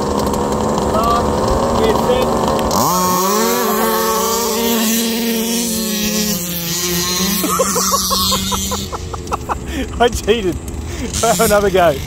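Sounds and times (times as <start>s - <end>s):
two-stroke engines buzzing at high revs: 0.0s - 12.0s.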